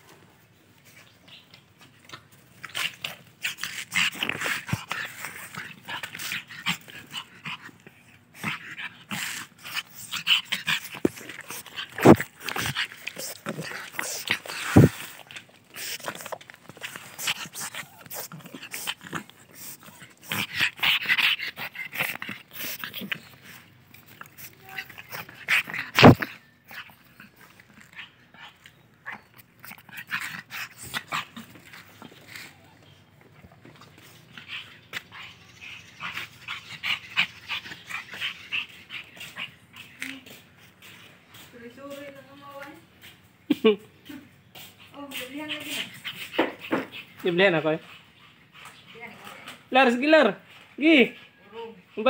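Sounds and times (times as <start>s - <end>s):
small dog vocalizing and breathing: 0.8s - 41.1s, 44.6s - 49.7s.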